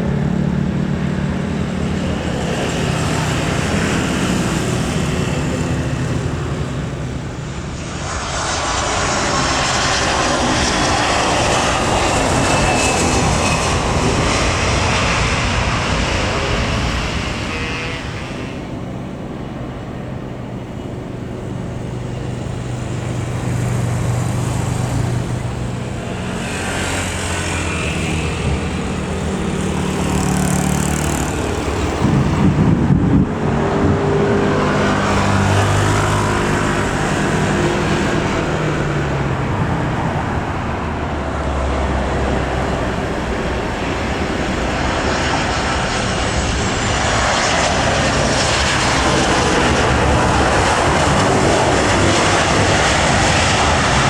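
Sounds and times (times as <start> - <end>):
airliner engines running: 0.0 - 54.0.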